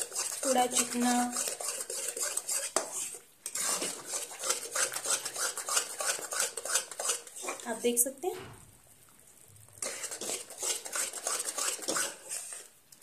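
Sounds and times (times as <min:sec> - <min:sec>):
metal spatula scraping pan: 0:00.0 - 0:07.8, 0:09.7 - 0:12.8.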